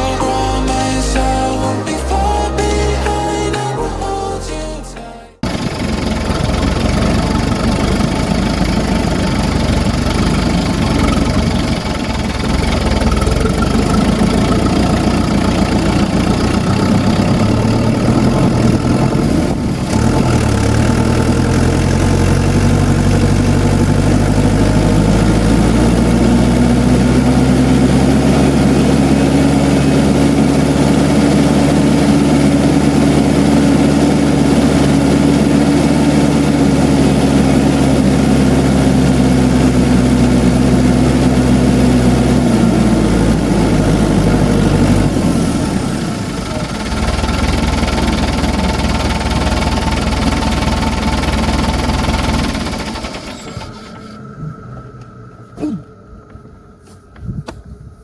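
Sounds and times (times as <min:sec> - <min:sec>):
diesel farm machinery engine: 0:05.4 - 0:57.6.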